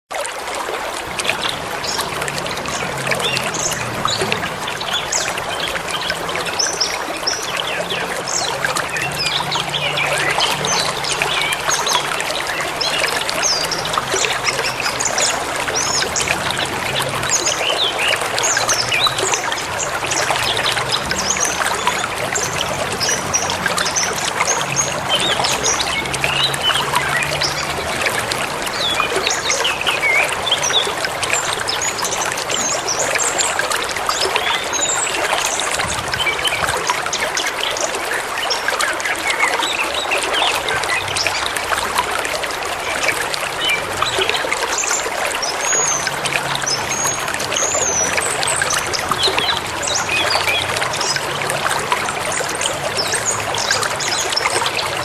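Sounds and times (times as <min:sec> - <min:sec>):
river rushing and babbling: 0:00.1 - 0:55.0.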